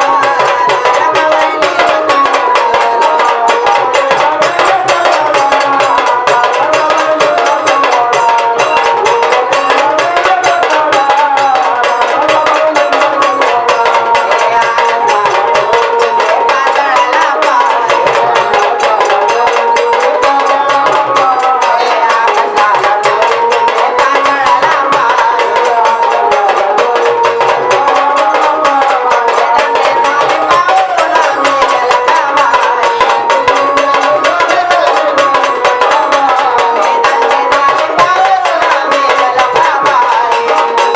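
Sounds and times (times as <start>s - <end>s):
fast drum and percussion: 0.0s - 40.9s
woman singing devotional song: 0.0s - 40.9s.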